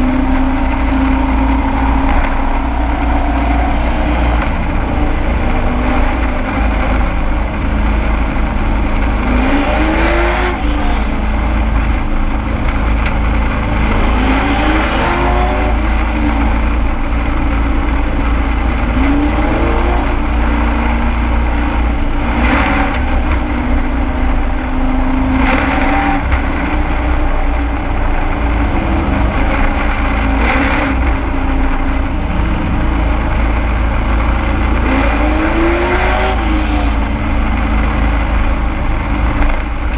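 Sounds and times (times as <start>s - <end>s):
road and wind noise: 0.0s - 39.9s
truck engine at racing speed: 0.0s - 39.9s.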